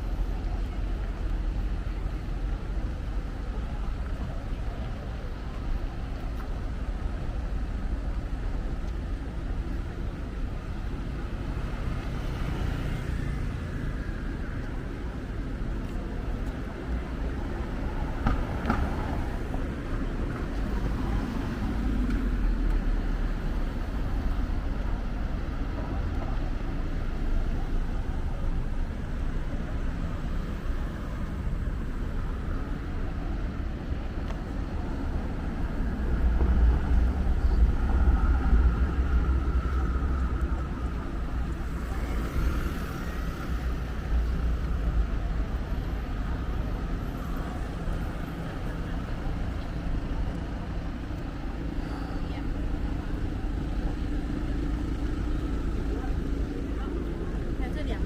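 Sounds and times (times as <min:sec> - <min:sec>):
cars passing rumble: 0:00.0 - 0:58.0.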